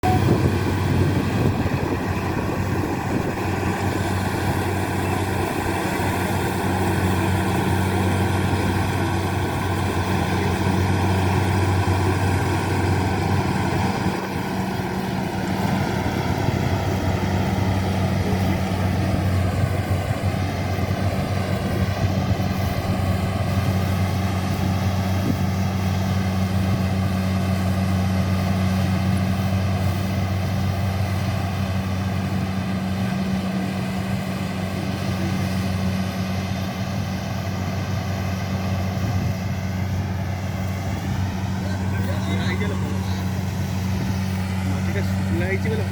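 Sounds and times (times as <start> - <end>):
engine whine: 0.0 - 45.9
harvesting machine engine hum: 0.0 - 45.9.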